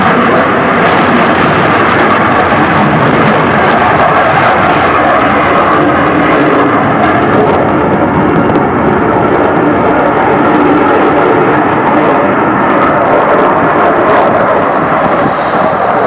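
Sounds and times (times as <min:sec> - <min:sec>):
airplane flying over: 0:00.0 - 0:16.0.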